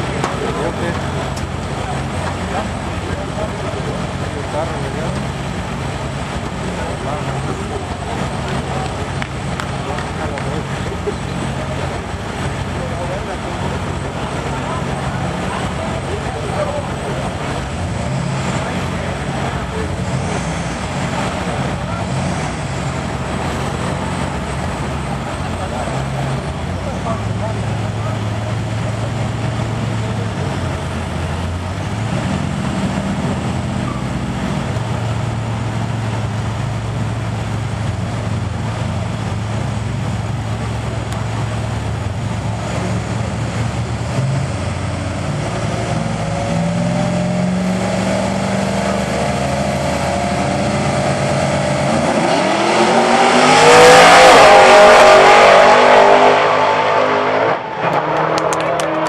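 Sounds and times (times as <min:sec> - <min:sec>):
engines accelerating at full throttle: 0:00.0 - 0:59.0
engines idling: 0:00.0 - 0:59.0.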